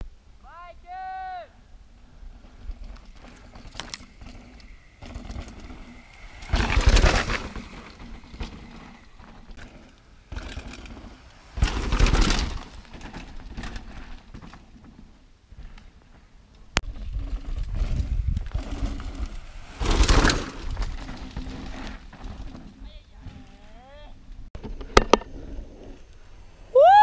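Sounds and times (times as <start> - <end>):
bike rattling and clicking: 1.9 - 26.2
tyres crunching on dirt: 2.0 - 24.6.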